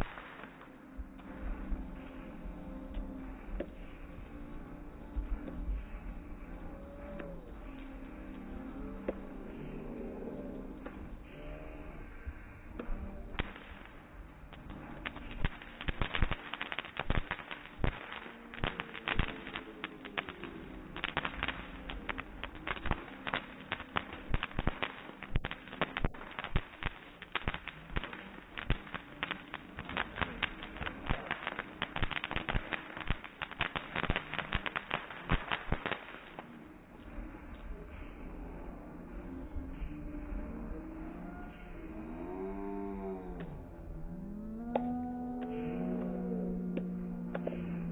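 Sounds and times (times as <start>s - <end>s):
fireworks fountain crackling: 0.0s - 9.6s, 10.5s - 40.7s.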